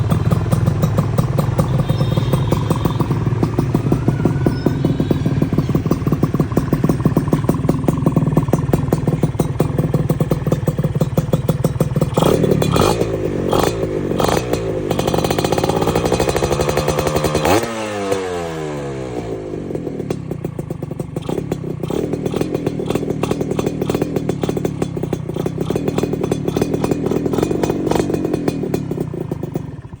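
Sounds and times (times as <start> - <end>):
two-stroke engine idling and revving: 0.0 - 30.0.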